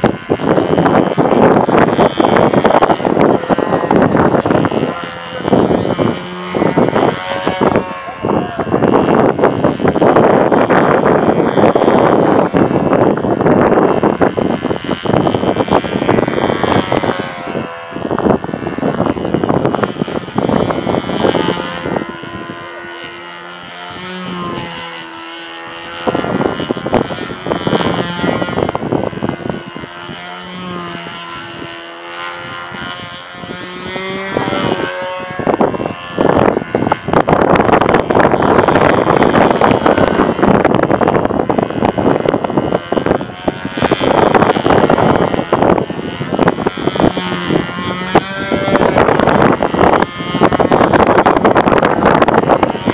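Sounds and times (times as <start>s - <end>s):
model airplane engine: 0.0s - 52.9s
wind buffeting microphone: 0.0s - 52.9s.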